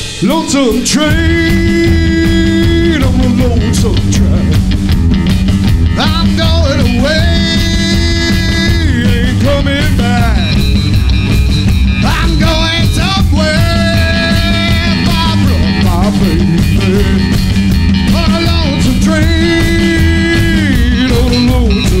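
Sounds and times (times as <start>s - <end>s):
drum kit: 0.0s - 22.0s
electric guitar: 0.0s - 22.0s.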